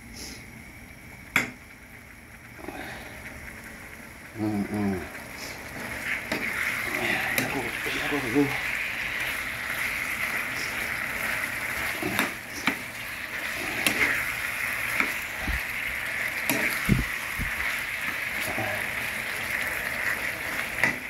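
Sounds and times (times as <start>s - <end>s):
fish sizzling in a frying pan: 1.8s - 21.0s.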